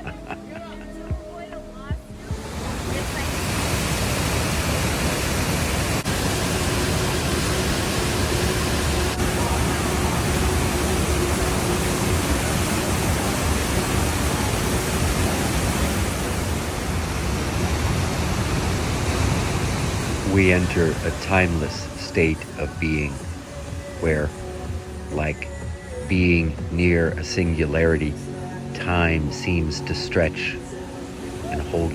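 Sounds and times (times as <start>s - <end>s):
waterfall rushing water: 1.8s - 31.9s.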